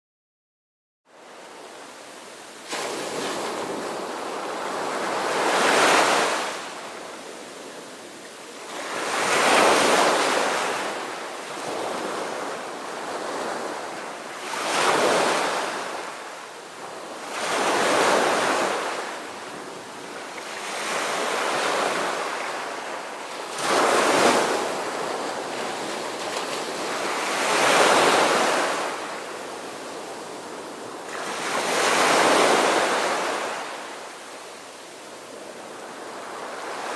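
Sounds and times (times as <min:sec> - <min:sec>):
waves washing in: 0:01.1 - 0:36.9.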